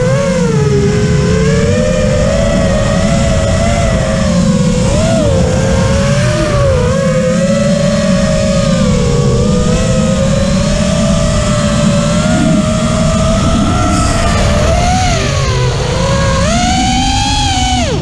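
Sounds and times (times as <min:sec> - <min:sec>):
drone motors whining: 0:00.0 - 0:18.0
wind on microphone: 0:00.0 - 0:18.0.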